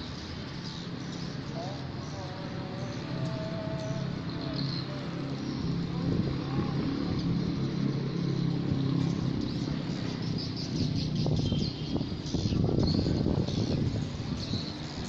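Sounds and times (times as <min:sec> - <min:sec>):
motor vehicle engine hum: 0:00.0 - 0:15.0.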